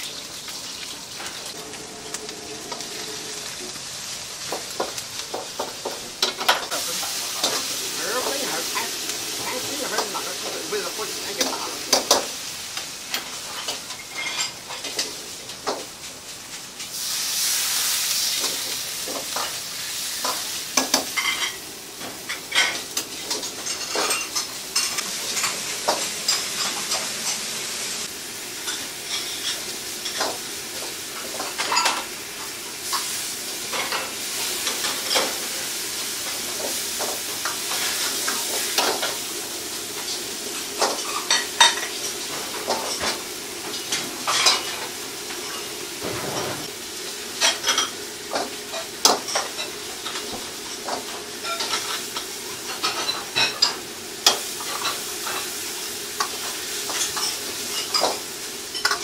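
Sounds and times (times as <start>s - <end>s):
wok sizzling: 0.0s - 59.0s.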